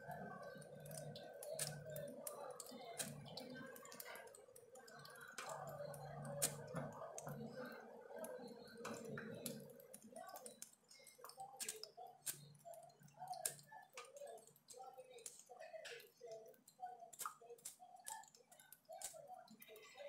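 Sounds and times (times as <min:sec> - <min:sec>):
splashing drops clicking: 0:00.0 - 0:19.9.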